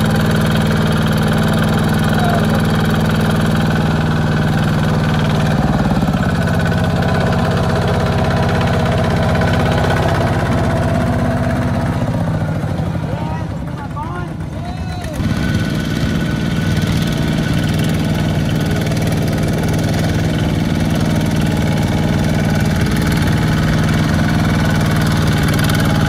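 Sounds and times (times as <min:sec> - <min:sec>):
walking tractor diesel engine: 0:00.0 - 0:26.0.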